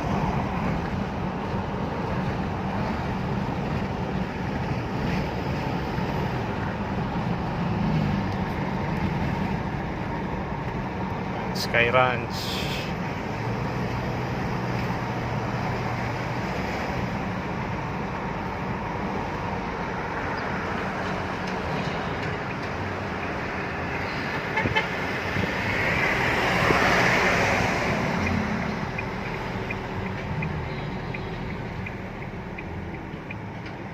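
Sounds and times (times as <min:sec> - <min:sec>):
diesel engine hum: 0:00.0 - 0:33.9
road and tyre noise: 0:00.0 - 0:33.9.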